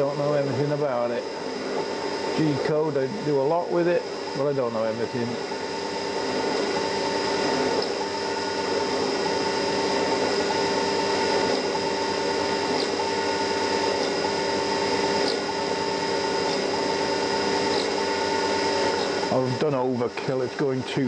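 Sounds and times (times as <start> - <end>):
high machine whine: 0.0 - 21.0
milling machine spindle hum: 0.0 - 21.0.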